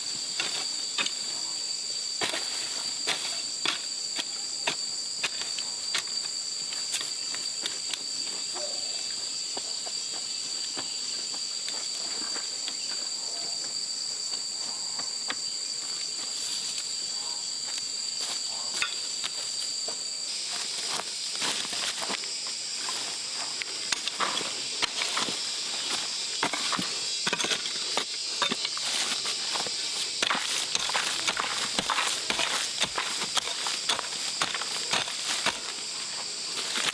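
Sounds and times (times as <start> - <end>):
insects calling: 0.0 - 36.9.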